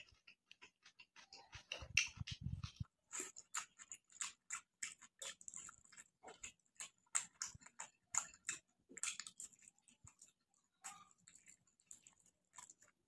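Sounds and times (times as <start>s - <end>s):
man chewing with mouth open: 0.0s - 13.0s.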